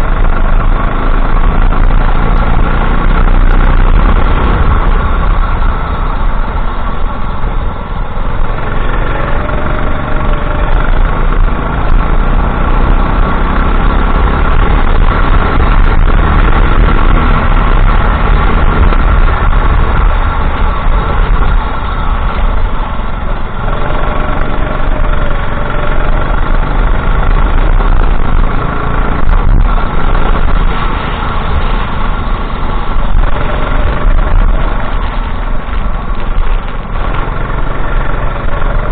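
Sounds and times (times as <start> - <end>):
deep low rumble: 0.0 - 38.9
kart engine running loud: 0.0 - 38.9.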